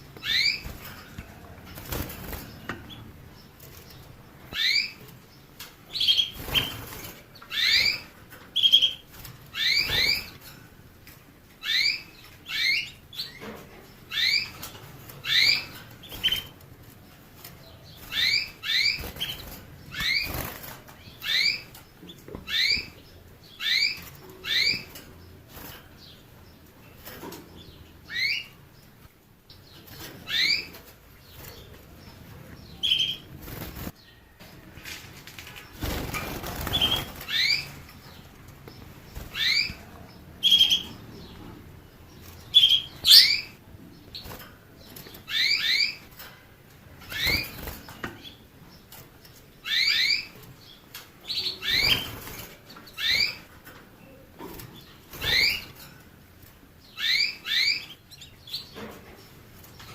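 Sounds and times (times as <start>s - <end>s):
canary chirping: 0.0s - 34.4s, 35.5s - 59.9s.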